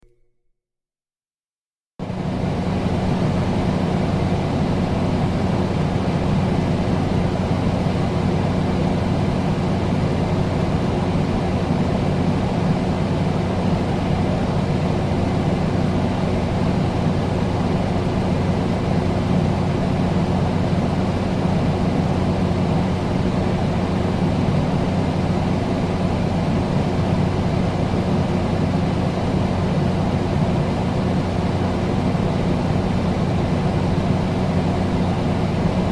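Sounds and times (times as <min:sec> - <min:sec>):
air conditioner running: 0:02.0 - 0:35.9.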